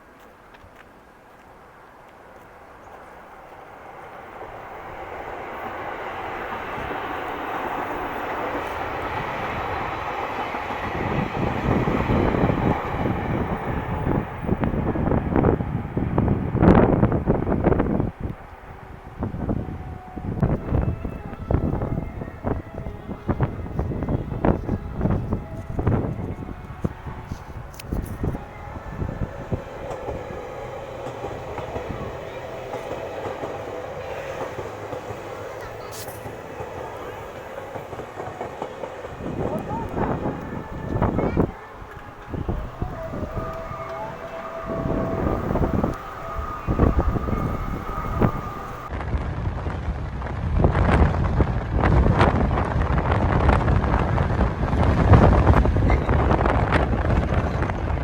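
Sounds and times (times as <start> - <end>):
train rumbling past: 0.0 - 58.0
wind buffeting microphone: 3.0 - 58.0.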